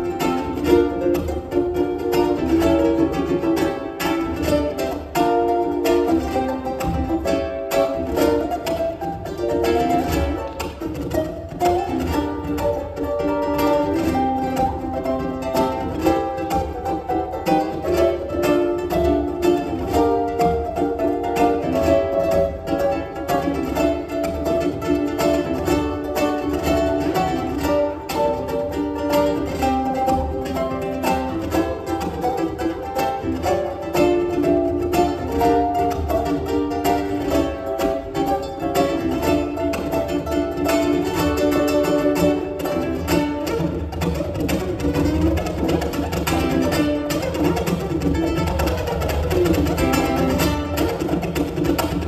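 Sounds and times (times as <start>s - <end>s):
ukulele duet plucking melody: 0.0s - 52.0s.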